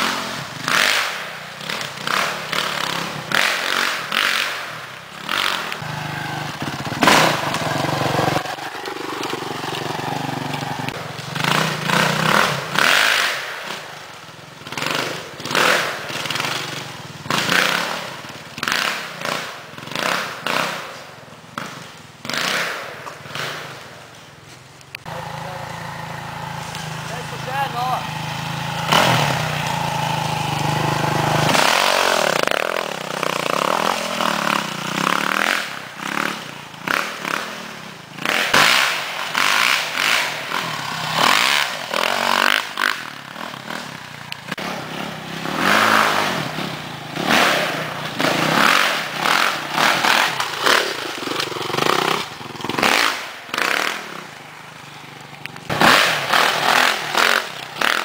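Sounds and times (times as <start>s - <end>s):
motorcycle engine revving: 0.0s - 24.0s, 25.0s - 58.0s.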